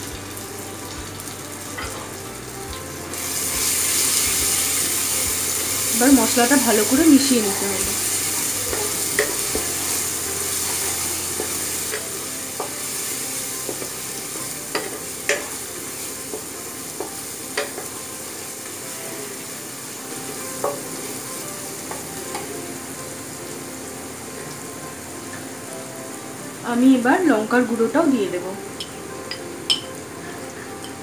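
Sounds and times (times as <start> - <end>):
paste sizzling in hot oil: 0.0 - 26.5.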